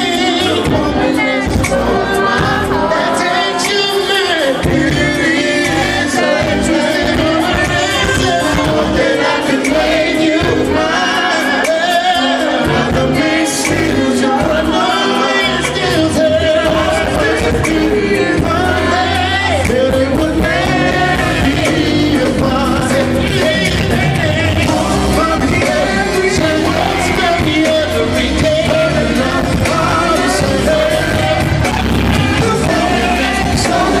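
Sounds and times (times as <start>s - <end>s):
band playing: 0.0s - 34.0s
male vocal group singing: 0.0s - 34.0s.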